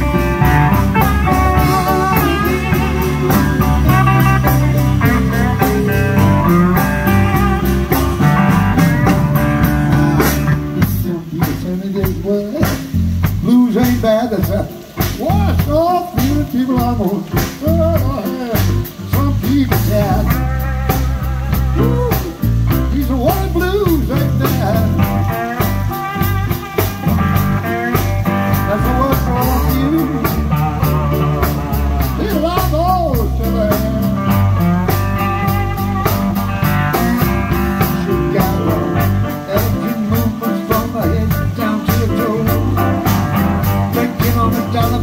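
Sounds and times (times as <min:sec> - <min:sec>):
electric guitar lead: 0:00.0 - 0:45.0
keyboard: 0:00.0 - 0:45.0
steady drum beat: 0:00.0 - 0:45.0
upright bass: 0:00.0 - 0:45.0.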